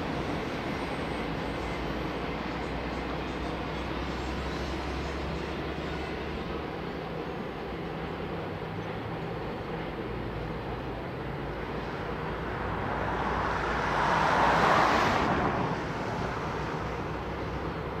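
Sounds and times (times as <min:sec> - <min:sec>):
diesel locomotives idling: 0:00.0 - 0:13.9, 0:15.6 - 0:18.0
broad rush of noise: 0:00.0 - 0:18.0.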